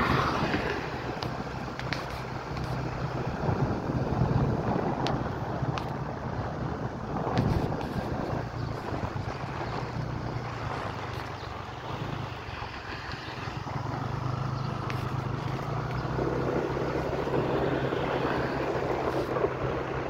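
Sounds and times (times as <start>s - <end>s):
vehicle engine running: 0.0s - 20.0s
wind and road noise: 0.0s - 20.0s.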